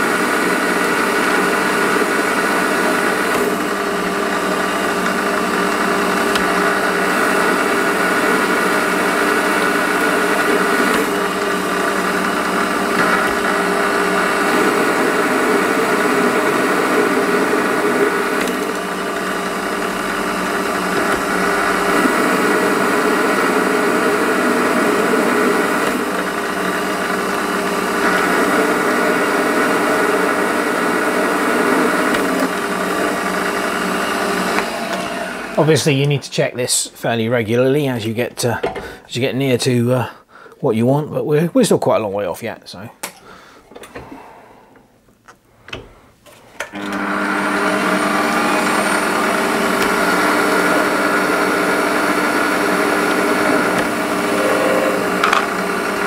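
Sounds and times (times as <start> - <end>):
lathe motor whine: 0.0 - 35.7, 46.8 - 56.0
lathe tool cutting metal bar: 0.0 - 35.7, 46.8 - 56.0.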